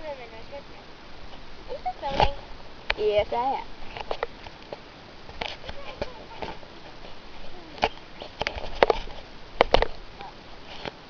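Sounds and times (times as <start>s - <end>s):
faint voices: 0.0s - 10.9s.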